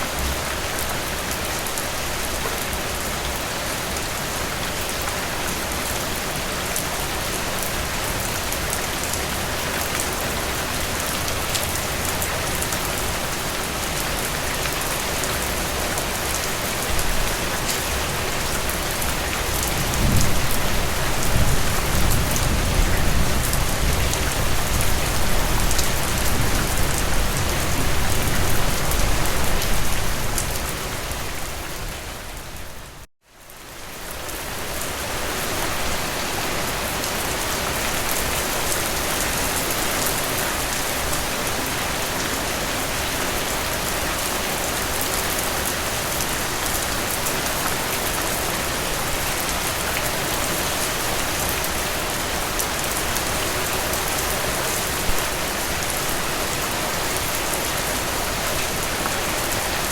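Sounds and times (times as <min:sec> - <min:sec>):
heavy rain on surfaces: 0:00.0 - 0:59.9.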